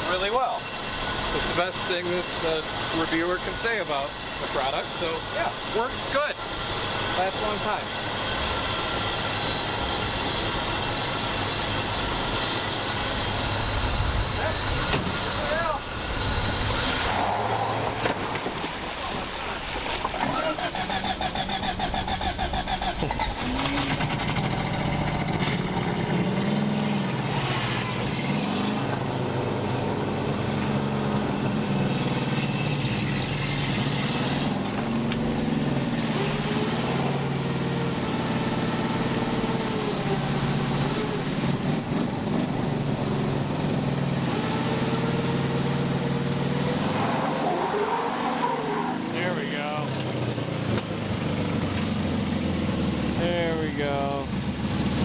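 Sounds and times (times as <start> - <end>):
vehicle engines revving: 0.0 - 19.2, 19.8 - 55.0.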